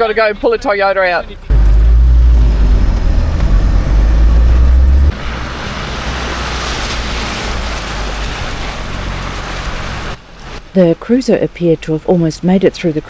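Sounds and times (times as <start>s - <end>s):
vehicle rumbling on rough track: 0.0s - 13.0s.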